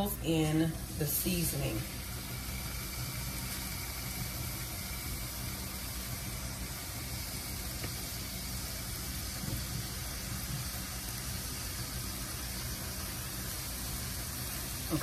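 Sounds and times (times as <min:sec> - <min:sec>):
low steady hum: 0:00.0 - 0:15.0
meat sizzling on a griddle: 0:00.8 - 0:15.0.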